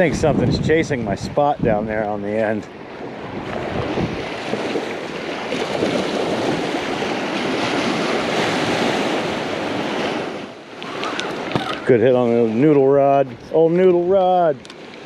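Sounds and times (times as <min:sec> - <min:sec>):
ocean surf on beach: 0:00.0 - 0:15.0
wind on microphone: 0:00.0 - 0:15.0.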